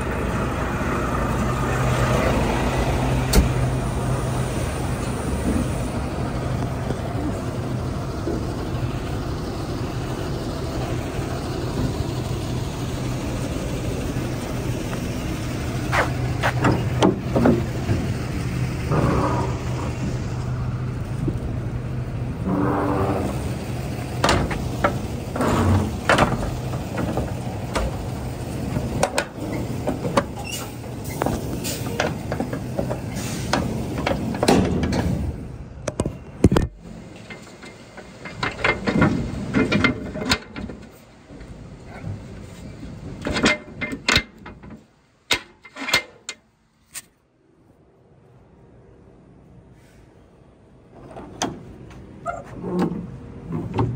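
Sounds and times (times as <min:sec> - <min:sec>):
diesel engine idling: 0:00.0 - 0:45.3.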